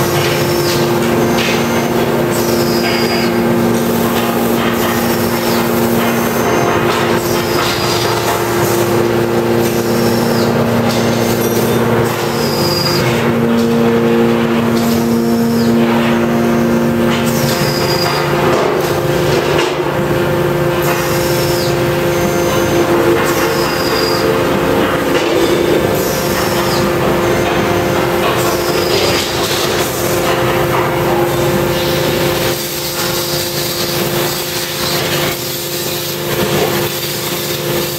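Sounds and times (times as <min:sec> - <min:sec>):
hydraulic press humming: 0:00.0 - 0:37.9.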